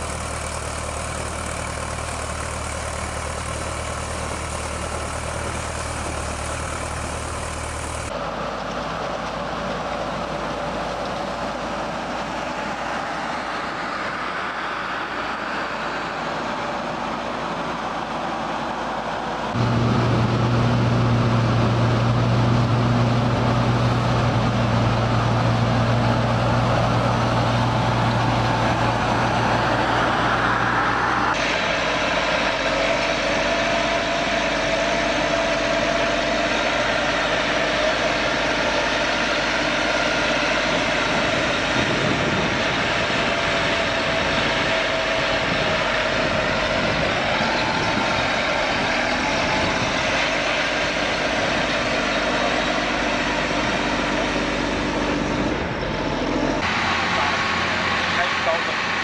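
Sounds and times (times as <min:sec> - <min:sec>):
engine with higher whine: 0:00.0 - 0:59.0
heavy machinery engine droning: 0:00.0 - 0:59.0.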